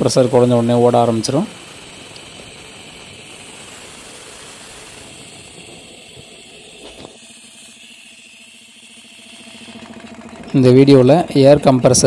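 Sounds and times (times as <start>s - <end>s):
compressed air hissing: 0.0s - 10.2s
faint machine hum: 0.0s - 12.0s.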